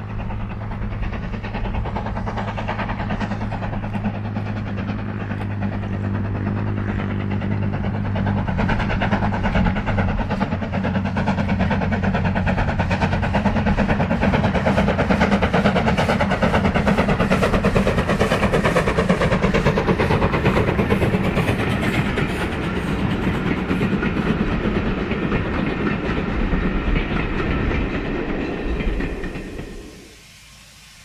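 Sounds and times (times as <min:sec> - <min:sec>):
steam train running past: 0:00.0 - 0:31.0.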